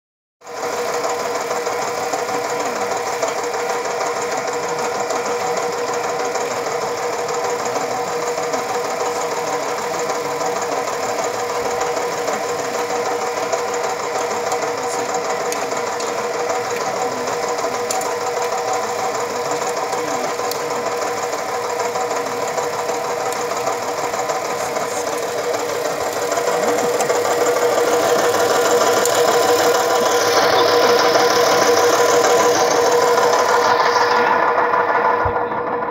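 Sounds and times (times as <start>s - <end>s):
rotary sieve machine humming: 0.4s - 35.9s.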